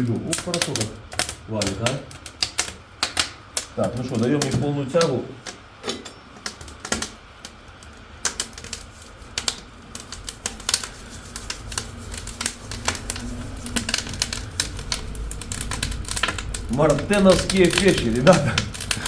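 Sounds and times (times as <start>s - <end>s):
low rumble of stove draft: 0.0s - 19.0s
wood fire crackling and popping: 0.0s - 19.0s.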